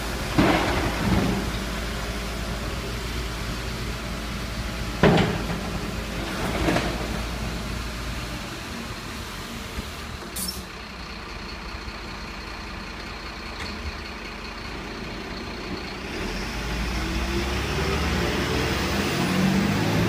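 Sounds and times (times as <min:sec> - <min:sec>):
diesel truck engine idling: 0:00.0 - 0:18.2.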